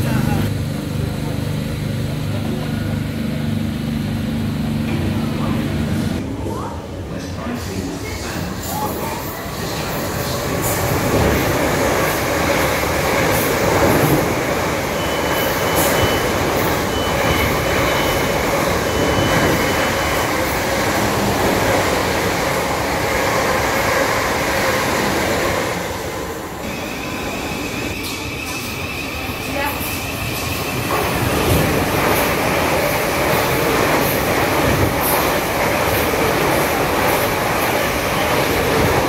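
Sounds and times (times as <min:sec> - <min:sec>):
train wheels rumbling on track: 0:07.2 - 0:39.0.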